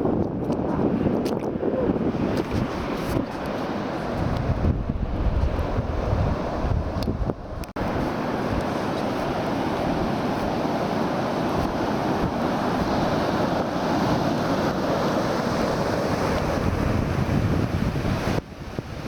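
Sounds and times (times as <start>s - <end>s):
sea surf on shore: 0.0s - 19.0s
wind buffeting microphone: 0.0s - 19.0s.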